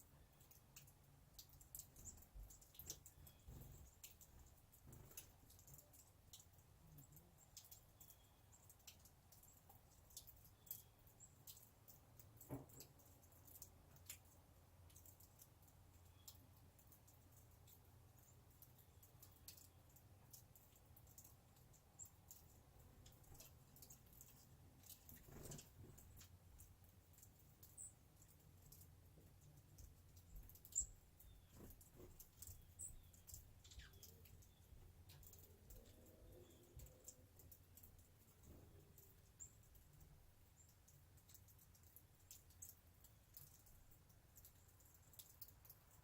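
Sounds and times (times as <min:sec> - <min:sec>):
small birds chirping: 0:00.0 - 0:46.0
faint high ticks: 0:00.4 - 0:46.0.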